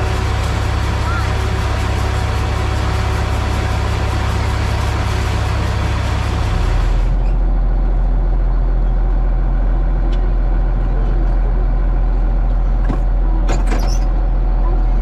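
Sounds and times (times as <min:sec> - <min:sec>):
farm vehicle engine humming: 0:00.0 - 0:15.0.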